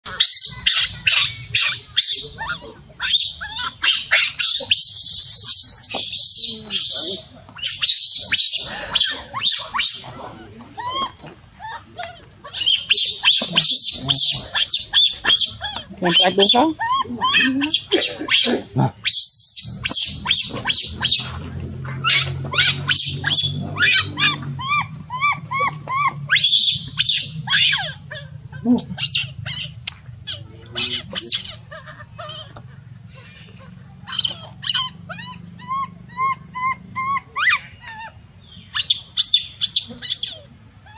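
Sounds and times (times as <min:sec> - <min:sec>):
infant monkey screaming: 0:00.1 - 0:40.9.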